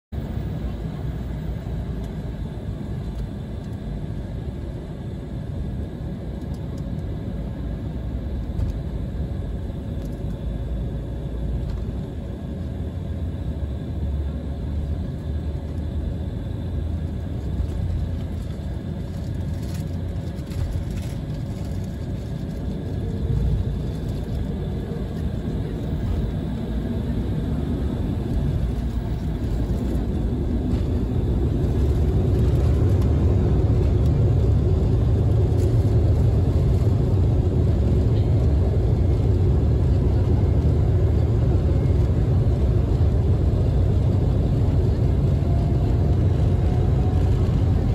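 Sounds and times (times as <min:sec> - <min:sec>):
jet engines in cabin: 0:00.1 - 0:47.9.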